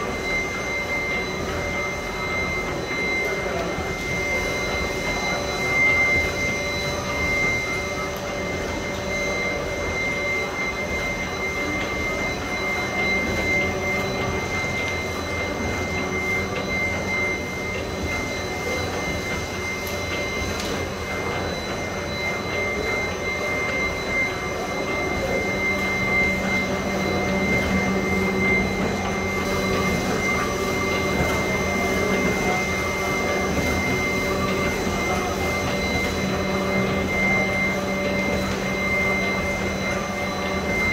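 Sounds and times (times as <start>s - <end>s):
high-pitched machine whine: 0.0s - 40.9s
machine mechanical hum: 0.0s - 40.9s.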